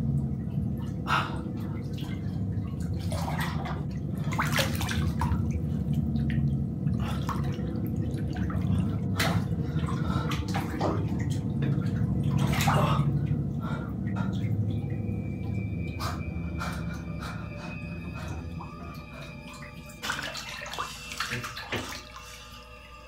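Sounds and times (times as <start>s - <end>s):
bathwater sloshing and splashing: 0.0s - 23.0s
steady low hum: 0.0s - 23.0s.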